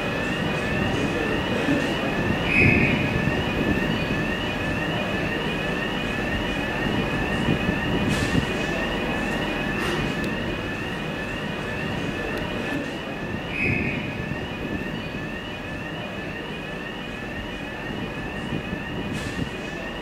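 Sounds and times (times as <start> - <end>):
electronic warning chirps: 0.0 - 20.0
idling diesel locomotives: 0.0 - 20.0.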